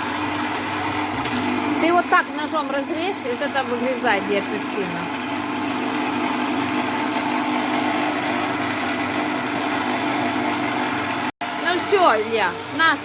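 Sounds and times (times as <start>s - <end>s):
citrus juicer motor humming: 0.0s - 13.0s.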